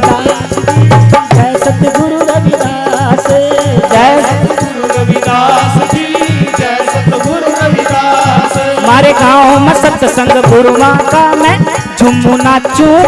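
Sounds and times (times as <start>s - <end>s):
hand drum beat: 0.0s - 13.0s
harmonium melody: 0.0s - 13.0s.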